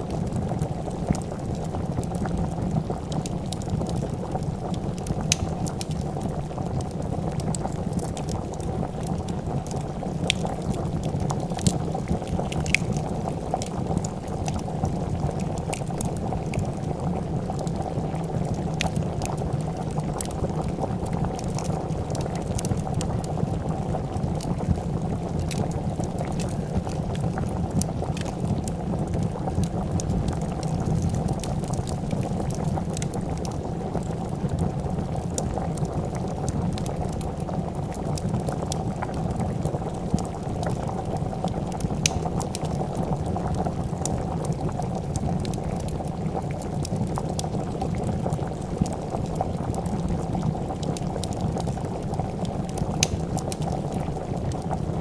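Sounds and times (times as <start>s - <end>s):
soup boiling and bubbling: 0.0s - 55.0s
wood fire crackling and popping: 0.0s - 55.0s.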